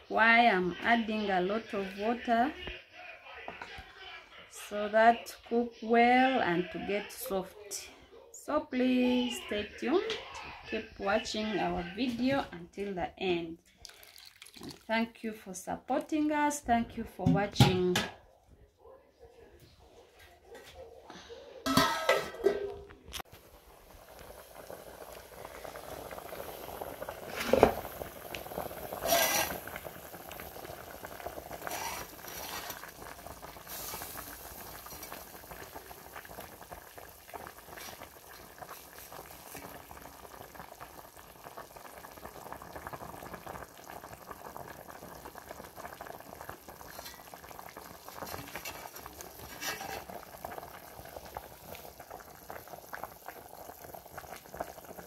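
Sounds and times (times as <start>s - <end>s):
pot of water boiling: 0.0s - 2.6s, 8.8s - 18.0s, 21.6s - 55.0s.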